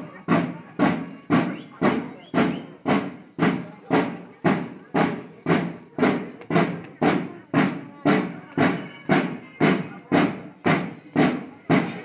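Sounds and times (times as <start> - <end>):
marching drums beating: 0.0 - 12.0.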